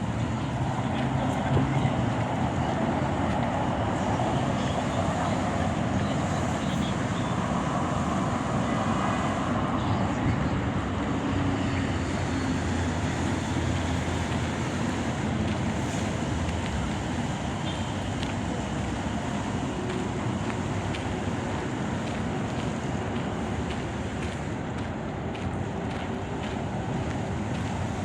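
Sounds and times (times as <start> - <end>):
city traffic: 0.0 - 28.0.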